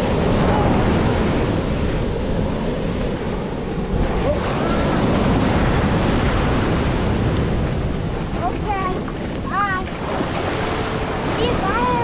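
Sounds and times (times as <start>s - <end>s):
rough surf breaking: 0.0s - 12.0s
wind buffeting microphone: 0.0s - 12.0s.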